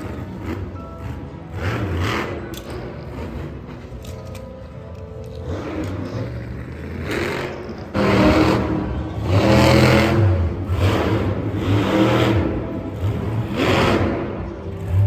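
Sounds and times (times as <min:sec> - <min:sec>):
engine revving: 0:00.0 - 0:03.9, 0:05.4 - 0:15.0.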